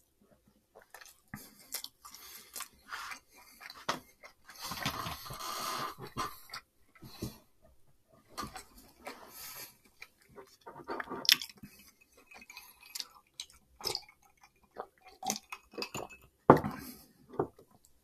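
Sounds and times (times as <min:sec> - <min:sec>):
person chewing: 0:00.3 - 0:07.4, 0:08.4 - 0:17.0.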